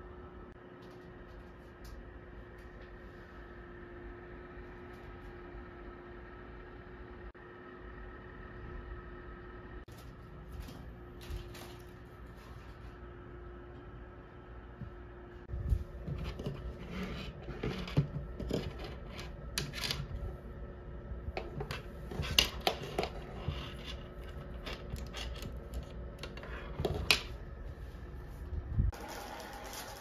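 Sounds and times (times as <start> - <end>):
faint room hum: 0.0 - 30.0.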